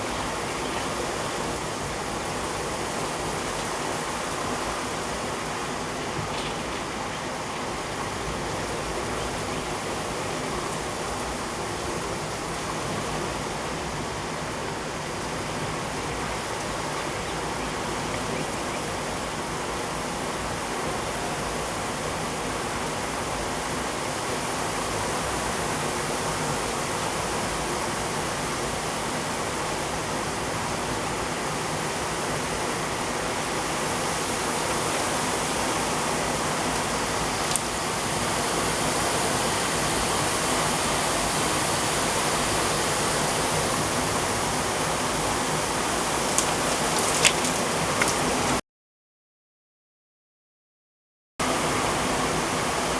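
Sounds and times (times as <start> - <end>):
heavy rain pouring: 0.0 - 48.6.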